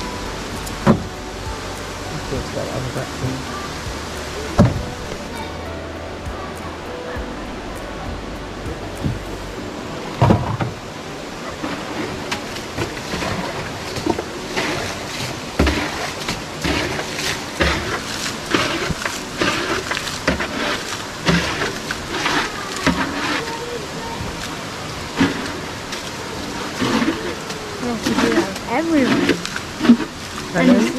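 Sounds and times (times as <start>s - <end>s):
steady water rush: 0.0s - 30.9s
water splashing and sloshing: 0.0s - 30.9s.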